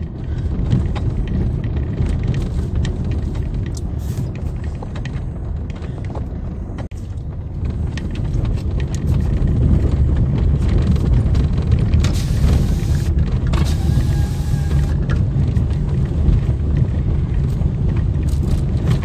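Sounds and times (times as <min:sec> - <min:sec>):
small rattles and knocks: 0:00.0 - 0:12.2, 0:15.0 - 0:19.0
car engine and tyres rumbling: 0:00.0 - 0:19.0.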